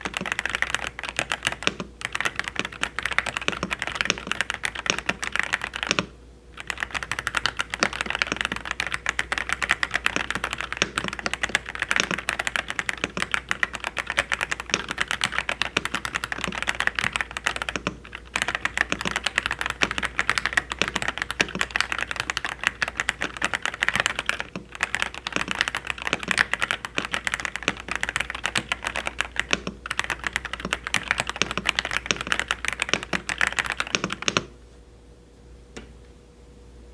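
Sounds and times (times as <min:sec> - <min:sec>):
mechanical keyboard typing: 0:00.0 - 0:34.5.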